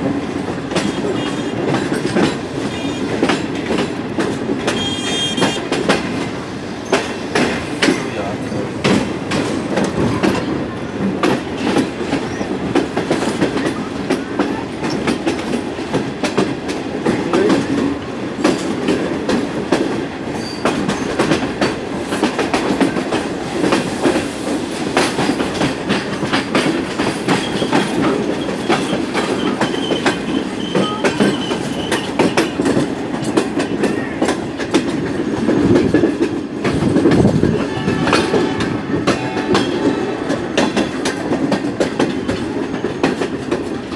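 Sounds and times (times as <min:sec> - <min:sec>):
train carriage noise: 0:00.0 - 0:43.9.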